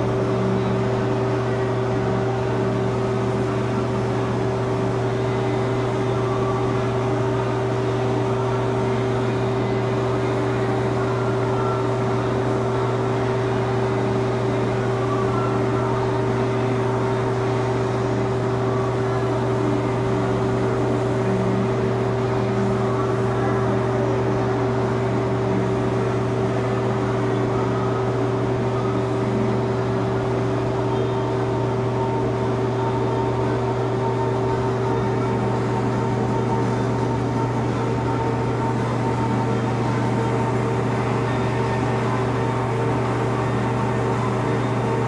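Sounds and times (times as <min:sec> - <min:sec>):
spraying equipment hum: 0:00.0 - 0:45.0.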